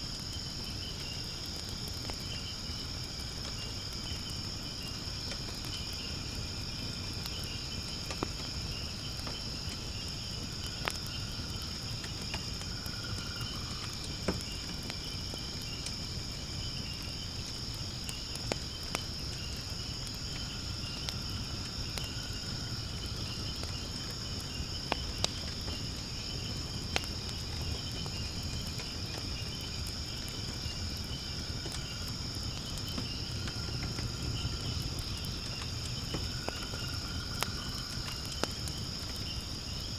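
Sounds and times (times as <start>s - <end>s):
crickets chirping: 0.0s - 39.9s
fire flame rumble: 0.0s - 39.9s
firewood crackling and popping: 0.0s - 39.9s.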